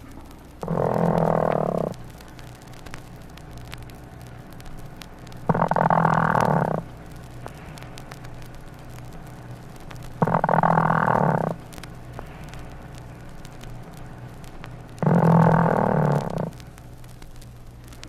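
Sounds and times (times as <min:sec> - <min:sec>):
hen purring trill: 0:00.0 - 0:03.9, 0:04.6 - 0:16.7.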